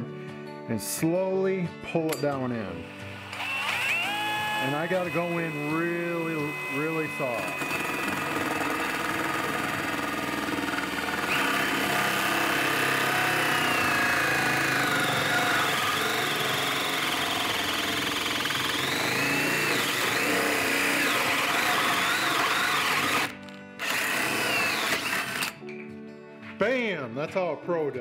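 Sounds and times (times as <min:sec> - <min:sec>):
drill hole saw cutting plywood: 0:02.8 - 0:25.6.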